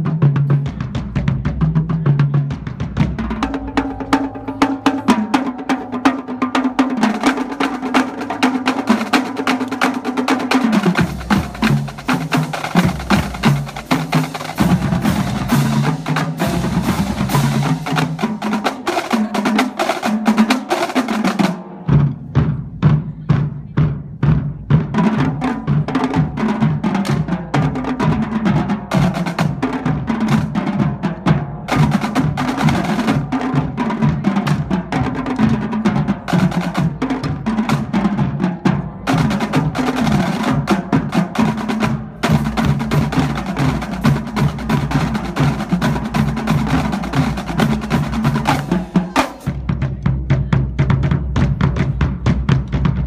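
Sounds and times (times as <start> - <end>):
snare drum patterns: 0.0 - 53.0
tenor and bass drums: 0.0 - 53.0.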